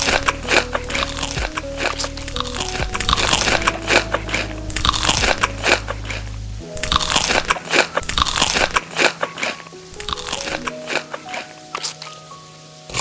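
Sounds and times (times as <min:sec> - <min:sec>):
crunching crisp food: 0:00.0 - 0:06.2, 0:06.8 - 0:11.4
faint background music: 0:00.0 - 0:13.0.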